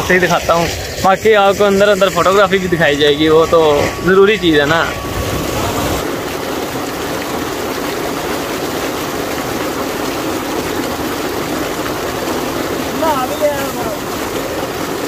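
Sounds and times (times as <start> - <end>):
water gushing into tank: 0.0 - 15.0.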